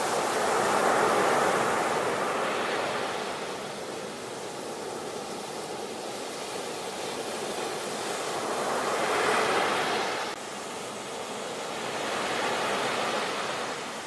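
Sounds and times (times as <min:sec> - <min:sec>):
ocean surf washing up beach: 0:00.0 - 0:14.0.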